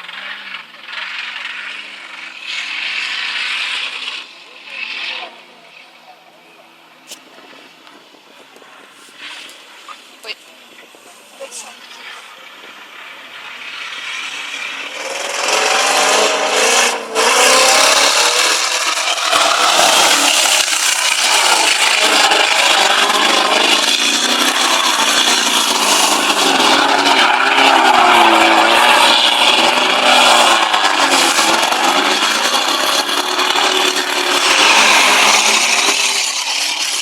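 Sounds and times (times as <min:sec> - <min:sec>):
vehicle engine revving: 0:00.0 - 0:37.0.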